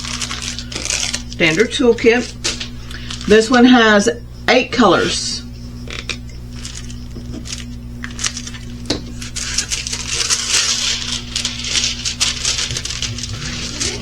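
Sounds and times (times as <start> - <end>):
plastic packaging crinkling: 0.0 - 3.6, 5.9 - 14.0
steady low hum: 0.0 - 14.0.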